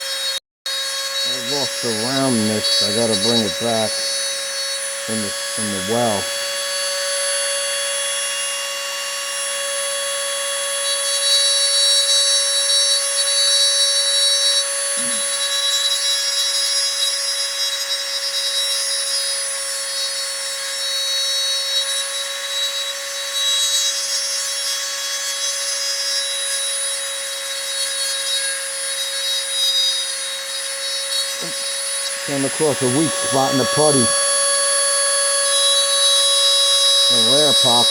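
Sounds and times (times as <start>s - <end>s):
small power tool whining: 0.0s - 37.9s.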